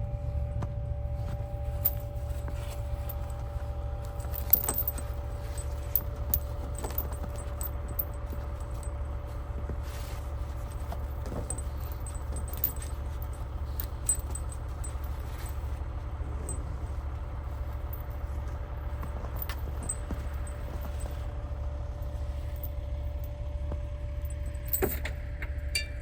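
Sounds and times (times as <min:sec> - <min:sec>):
diesel truck engine droning: 0:00.0 - 0:26.0
light rattles and clicks: 0:01.4 - 0:26.0.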